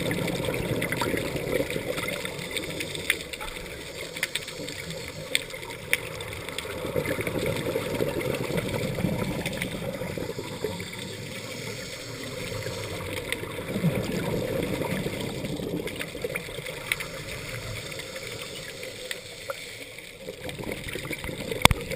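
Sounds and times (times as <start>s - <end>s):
exhaled bubbles rushing underwater: 0.0s - 21.9s
watery wash: 0.0s - 21.9s.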